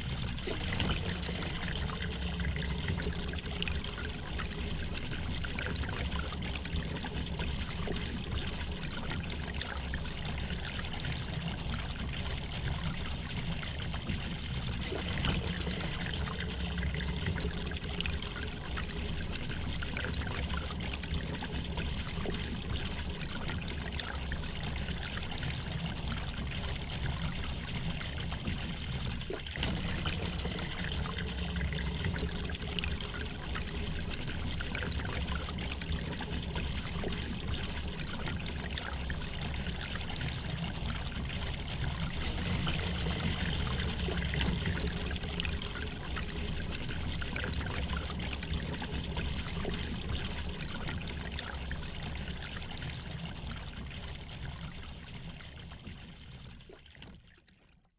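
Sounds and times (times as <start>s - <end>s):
deep water rumble: 0.0s - 54.9s.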